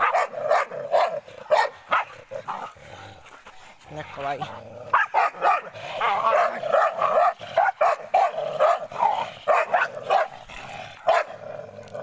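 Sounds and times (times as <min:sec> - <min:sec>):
dogs barking aggressively: 0:00.0 - 0:12.0.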